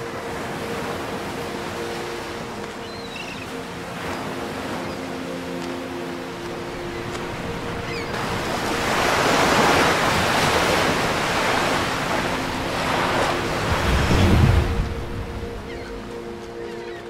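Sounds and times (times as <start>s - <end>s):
sea surf washing: 0.0s - 16.9s.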